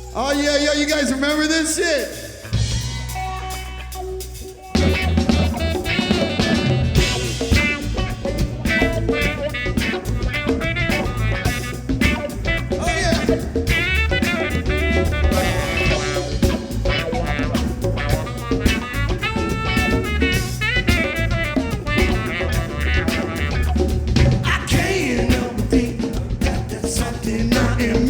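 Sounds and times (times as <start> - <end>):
guitar lines: 0.0 - 26.8
bass guitar: 0.0 - 28.0
drum kit beat: 0.0 - 28.0.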